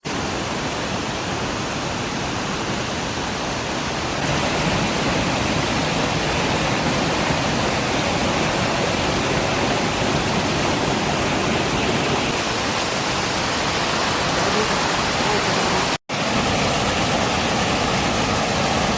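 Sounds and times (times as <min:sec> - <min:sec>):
water rushing: 0:00.0 - 0:18.9.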